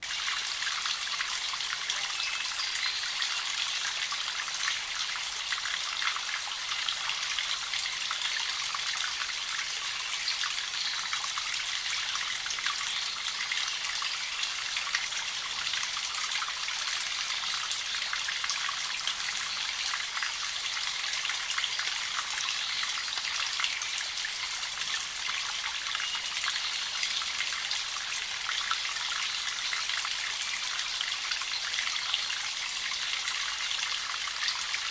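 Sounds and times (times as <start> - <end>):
spring water trickling and dripping: 0.0 - 34.9.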